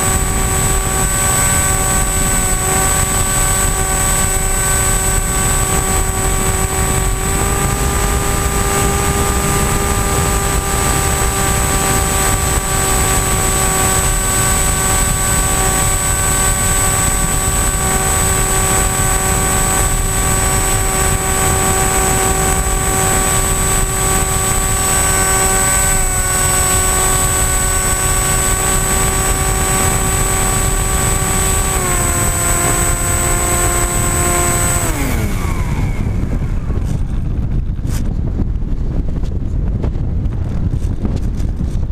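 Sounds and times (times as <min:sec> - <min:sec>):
electric motor whine: 0:00.0 - 0:41.9
heavy wind rush: 0:00.0 - 0:41.9.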